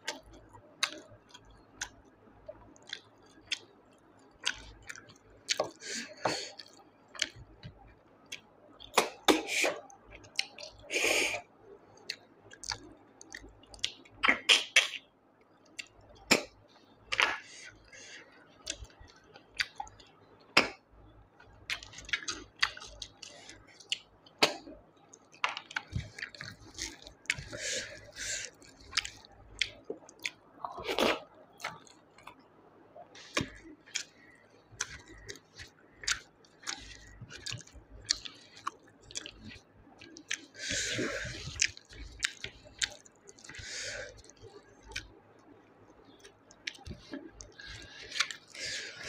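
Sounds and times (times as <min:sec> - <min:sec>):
wet chewing and lip smacks: 0:00.1 - 0:05.8, 0:06.5 - 0:09.3, 0:09.9 - 0:10.9, 0:11.9 - 0:15.0, 0:15.6 - 0:17.9, 0:18.5 - 0:20.8, 0:21.4 - 0:32.4, 0:33.2 - 0:49.0.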